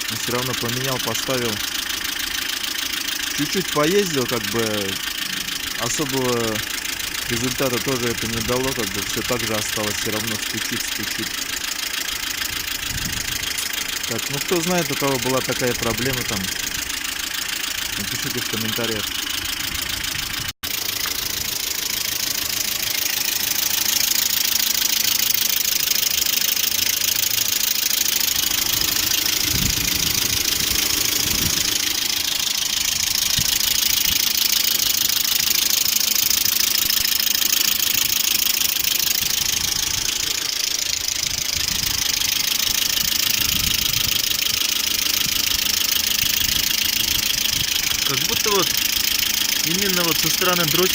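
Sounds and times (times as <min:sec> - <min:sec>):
car engine idling: 0:00.0 - 0:50.9
fast ticking engine clatter: 0:00.0 - 0:50.9.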